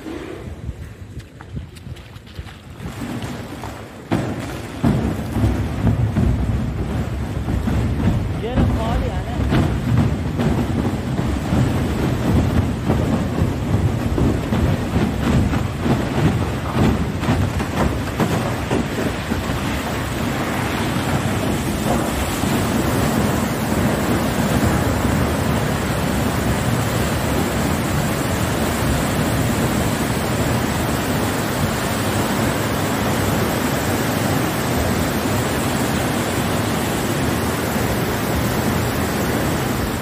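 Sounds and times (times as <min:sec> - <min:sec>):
water gushing in a torrent: 0:02.2 - 0:40.0.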